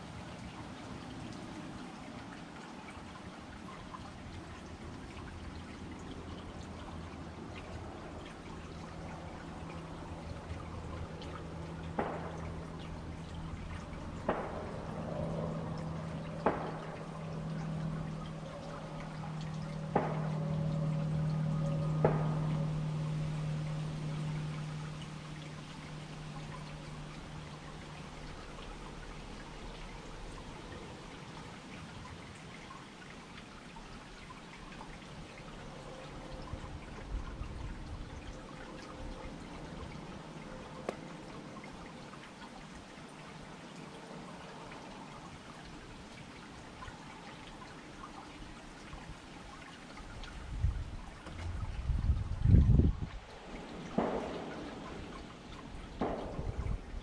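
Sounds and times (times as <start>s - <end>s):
low steady hum: 0.0s - 57.0s
water trickling in fountain: 0.0s - 57.0s.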